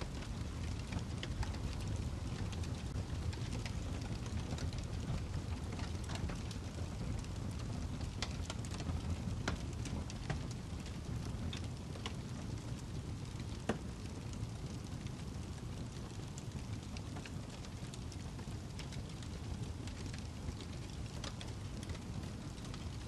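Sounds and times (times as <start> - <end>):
fire crackling in fireplace: 0.0 - 23.0.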